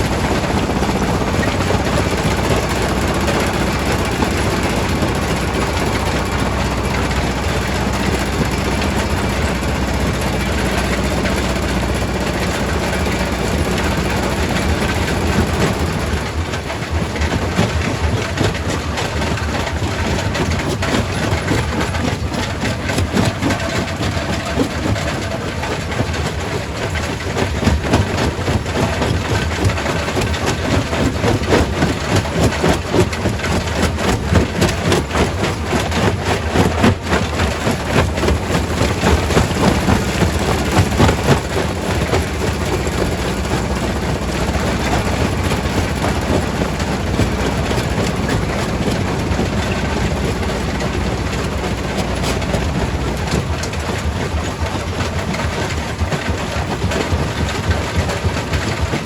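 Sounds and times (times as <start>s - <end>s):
rock crusher drone: 0.0s - 59.0s.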